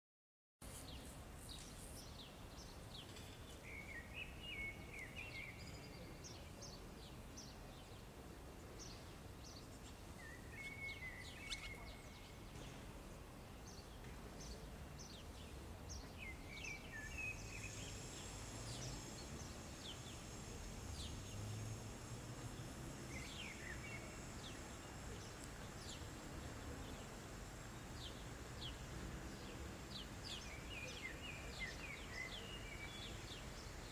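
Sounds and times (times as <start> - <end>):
small birds twittering: 0.8 - 8.1, 8.8 - 12.7, 13.5 - 33.9.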